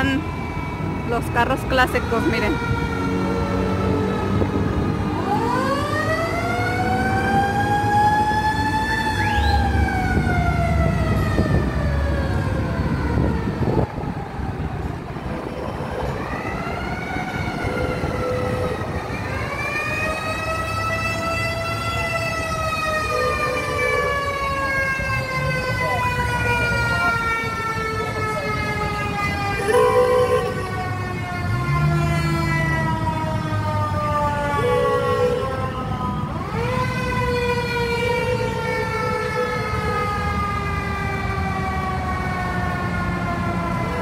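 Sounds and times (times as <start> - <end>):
siren wailing: 0.0 - 44.0.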